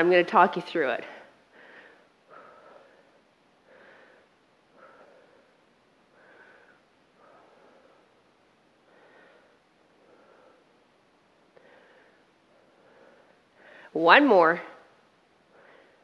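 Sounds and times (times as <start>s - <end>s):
woman breathing rhythmically: 1.0s - 14.0s, 14.7s - 16.0s.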